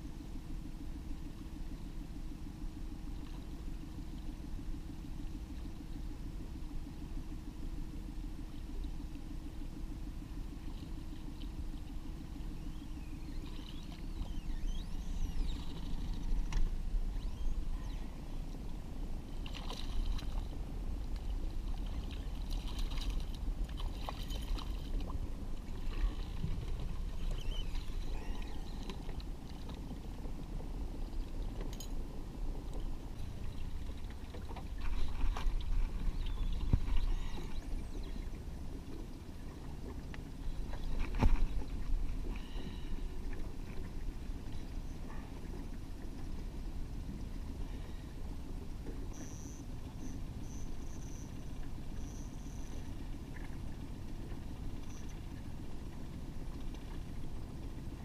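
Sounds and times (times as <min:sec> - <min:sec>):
boat motor running: 0:00.0 - 0:58.0
water splashing and gurgling: 0:10.3 - 0:58.0.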